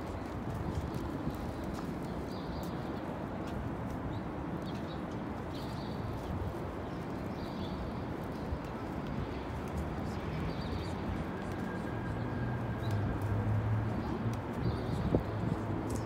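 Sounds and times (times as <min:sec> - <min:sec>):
low hum of traffic and people: 0:00.0 - 0:16.0.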